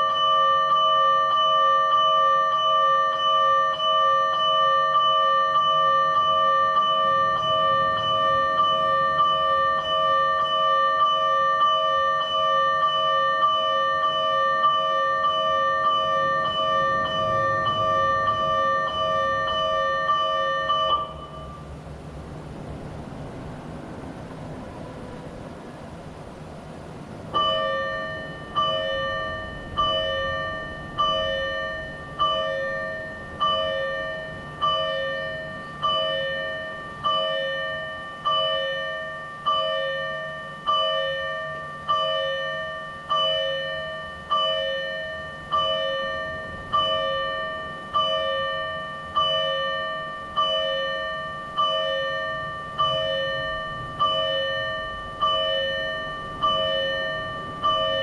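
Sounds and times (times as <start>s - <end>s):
electronic warning bell: 0.0s - 22.1s, 27.3s - 58.0s.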